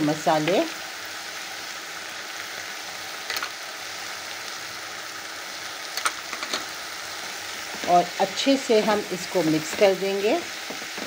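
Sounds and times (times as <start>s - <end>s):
vegetables sizzling: 0.0s - 11.0s.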